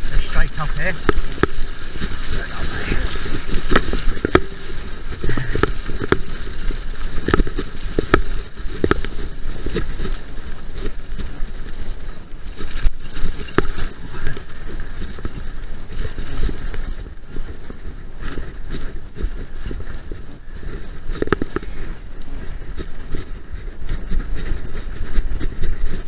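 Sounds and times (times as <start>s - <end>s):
bike rattling over bumps: 0.0s - 26.0s
bike tyres rumbling: 0.0s - 26.0s
wind on microphone: 0.0s - 26.0s.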